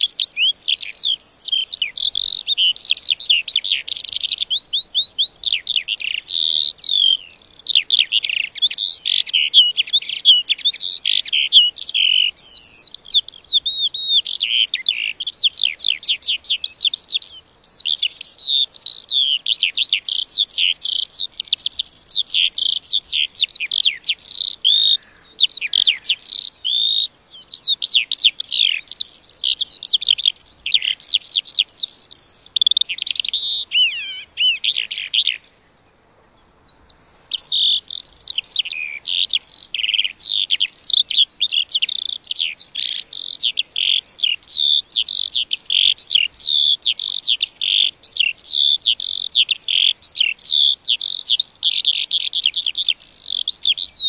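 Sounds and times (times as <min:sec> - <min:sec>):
lark singing warbles and trills: 0:00.0 - 0:54.0.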